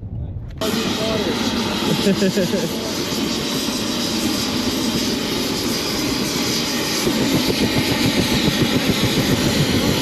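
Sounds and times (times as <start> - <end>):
helicopter engine and rotor: 0.6 - 10.0.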